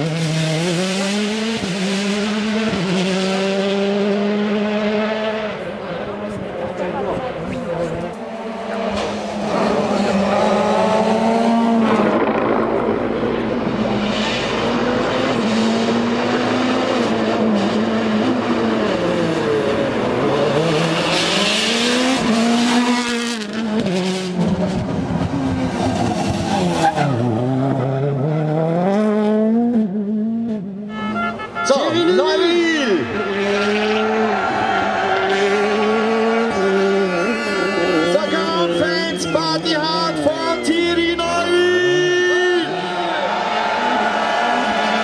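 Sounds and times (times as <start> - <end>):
rally car engine revving: 0.0 - 31.5, 32.1 - 45.0.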